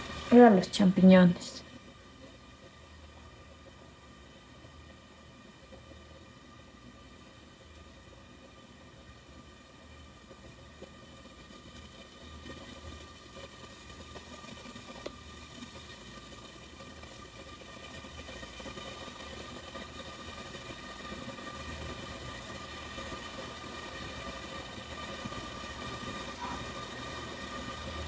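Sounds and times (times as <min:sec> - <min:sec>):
mechanical hum with high whine: 0:00.0 - 0:28.0.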